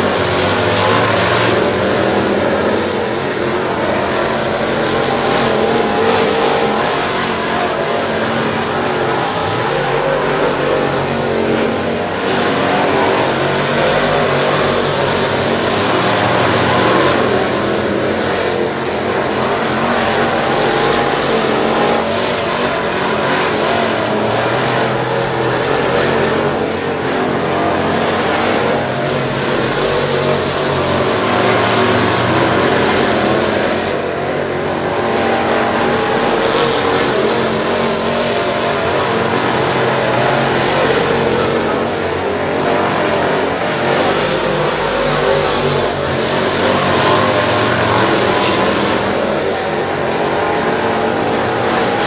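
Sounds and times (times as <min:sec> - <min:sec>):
race car engines passing at speed: 0:00.0 - 0:52.0.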